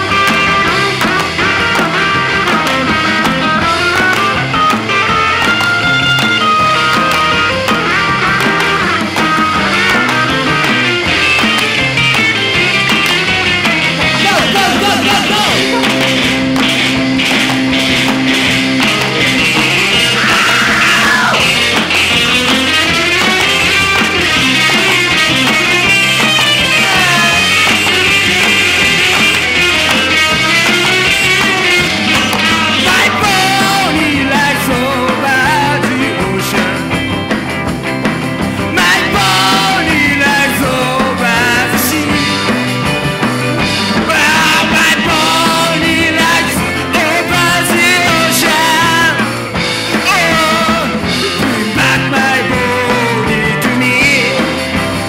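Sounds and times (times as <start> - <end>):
pitch-bending lead guitar: 0.0 - 55.0
rock band playing: 0.0 - 55.0.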